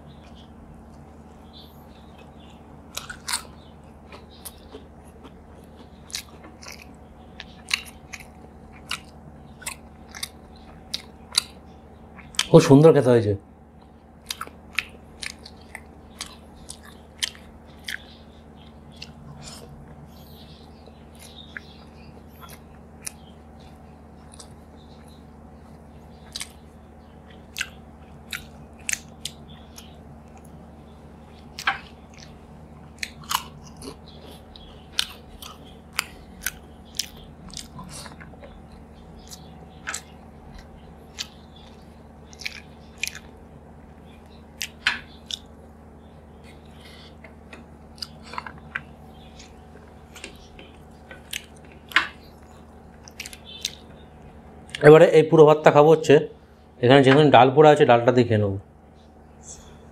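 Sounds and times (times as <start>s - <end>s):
person chewing with wet smacks: 0.1s - 12.5s, 13.8s - 54.8s.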